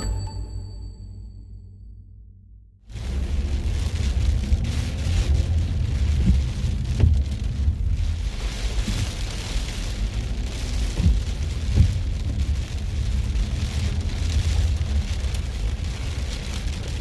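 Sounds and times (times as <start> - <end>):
car rumbling on the road: 2.9 - 17.0
heavy rain on a car: 2.9 - 17.0.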